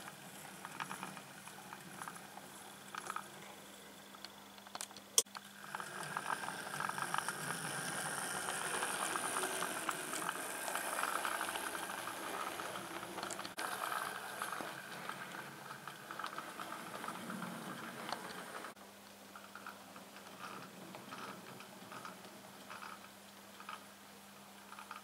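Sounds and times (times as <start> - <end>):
model train wheels clattering: 0.0 - 18.8, 19.4 - 23.9, 24.6 - 25.0.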